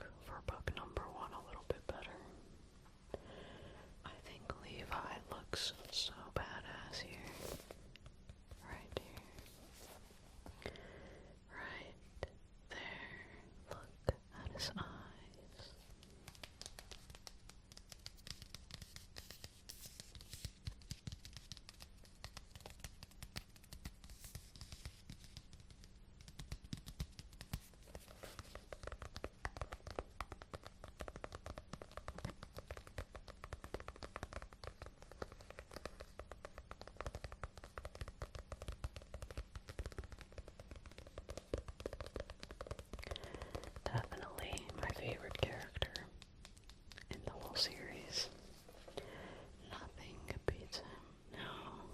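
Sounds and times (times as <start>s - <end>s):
crackling and scratching of object: 4.1s - 10.6s, 13.7s - 51.0s.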